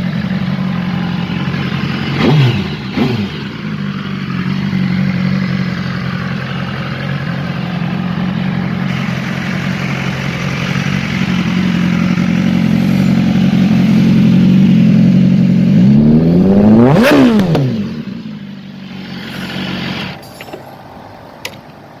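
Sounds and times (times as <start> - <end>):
motorcycle engine passing by: 0.0 - 20.2.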